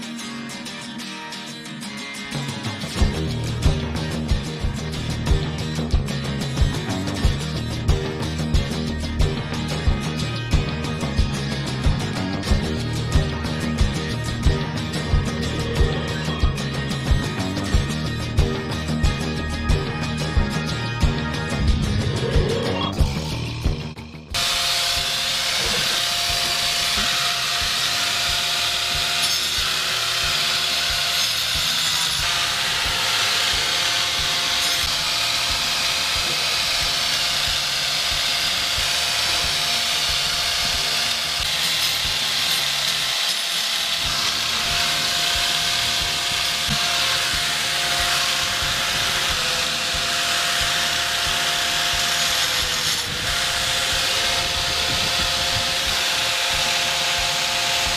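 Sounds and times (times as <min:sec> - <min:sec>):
angle grinder grinding rock: 0:02.3 - 0:57.9.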